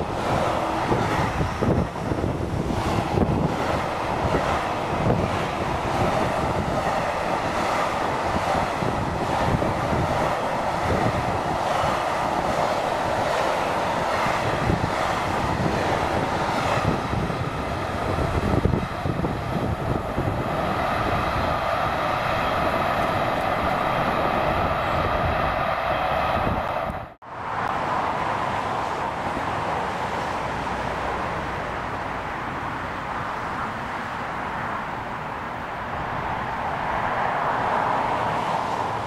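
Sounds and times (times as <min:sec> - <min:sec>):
train wheels rumbling on rails: 0:00.0 - 0:34.8.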